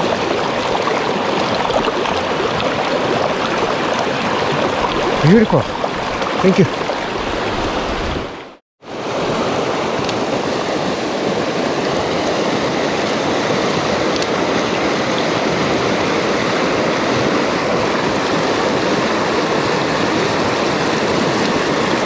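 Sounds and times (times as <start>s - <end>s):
creek rushing over rocks: 0.0s - 22.0s.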